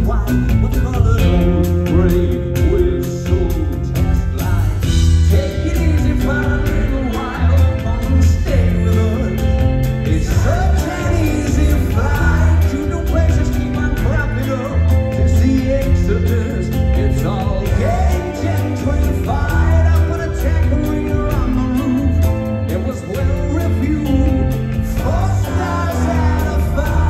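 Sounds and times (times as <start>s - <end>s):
man singing: 0.0s - 27.0s
rock band playing: 0.0s - 27.0s.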